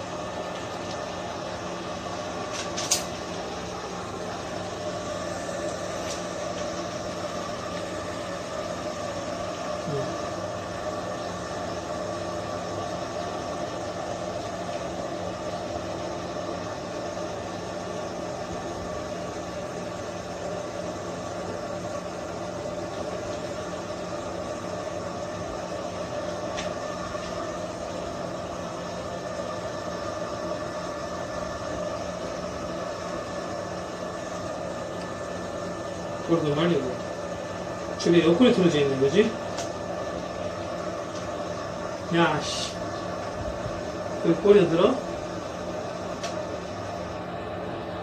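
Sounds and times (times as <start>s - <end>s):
hair dryer running: 0.0s - 48.0s.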